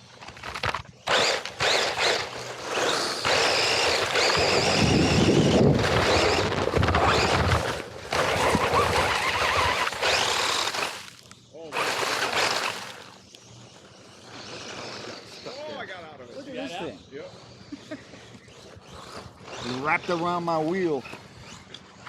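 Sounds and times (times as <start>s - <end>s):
tyres on gravel: 0.0s - 15.9s, 18.2s - 22.0s
rc car motor whining: 0.0s - 22.0s.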